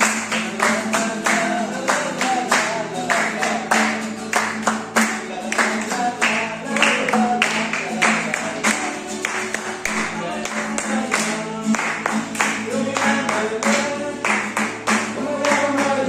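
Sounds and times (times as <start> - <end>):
people clapping along: 0.0 - 16.0
people singing: 0.0 - 16.0.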